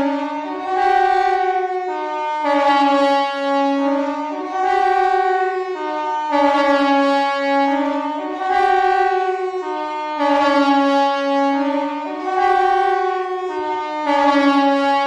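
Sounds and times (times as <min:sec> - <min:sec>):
compressed-air siren: 0:00.0 - 0:15.0.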